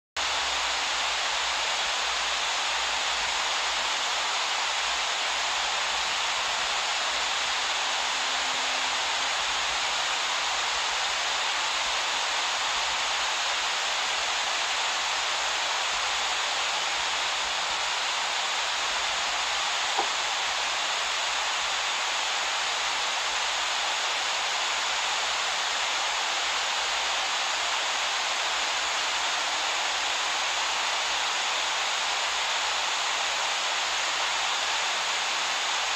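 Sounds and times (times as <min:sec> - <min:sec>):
whitewater rushing: 0:00.2 - 0:35.9.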